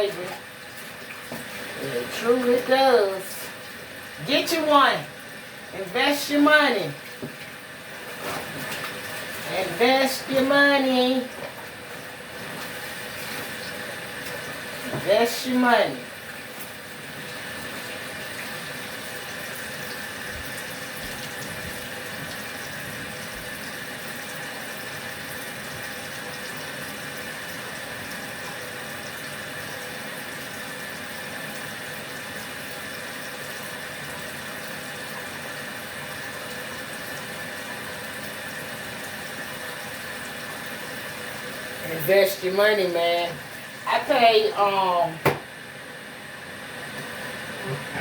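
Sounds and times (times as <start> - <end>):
water running into washing machine tub: 0.0 - 48.0.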